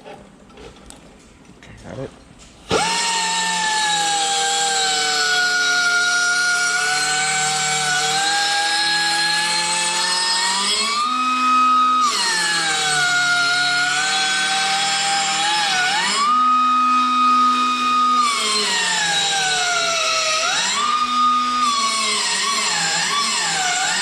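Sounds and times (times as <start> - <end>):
electric grinder grinding metal: 2.7 - 24.0.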